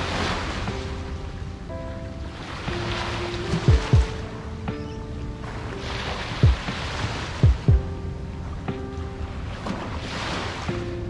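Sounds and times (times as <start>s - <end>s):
music with held notes: 0.0s - 11.0s
small waves on sandy shore: 0.0s - 11.0s.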